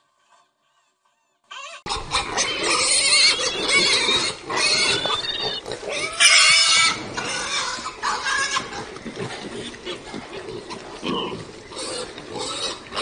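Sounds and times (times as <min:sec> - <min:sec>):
young pigs squealing: 0:00.2 - 0:13.0.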